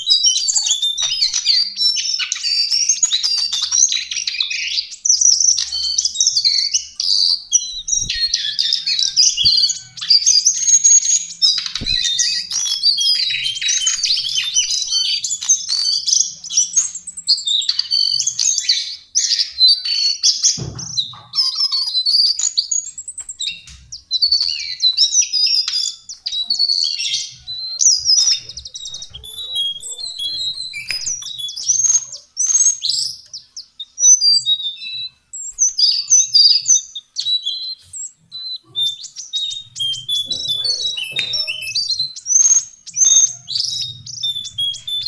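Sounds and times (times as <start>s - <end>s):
bird warbling song: 0.0s - 45.0s.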